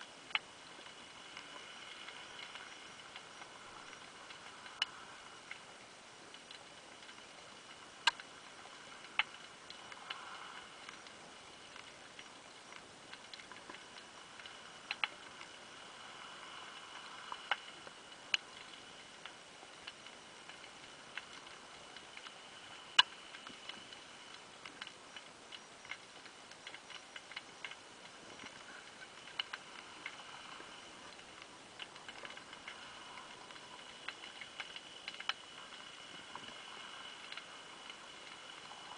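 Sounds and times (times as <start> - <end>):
faint steady hiss: 0.0 - 38.9
sharp underwater clicks and ticks: 0.0 - 38.9.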